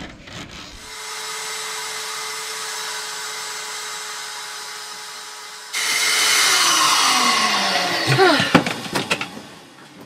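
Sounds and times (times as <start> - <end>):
small motor whirring: 0.6 - 9.4.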